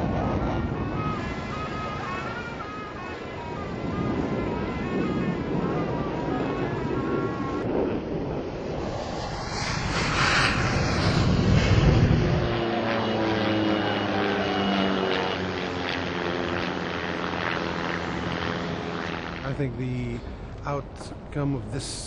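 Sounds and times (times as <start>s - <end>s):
aircraft flying past: 0.0s - 21.3s
droning aircraft engine: 0.0s - 22.0s.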